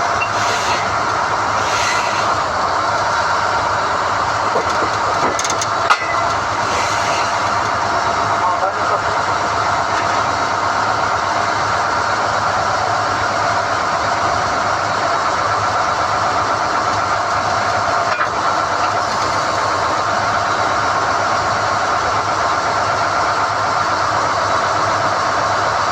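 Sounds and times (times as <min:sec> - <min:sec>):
drilling rig running: 0:00.0 - 0:25.9.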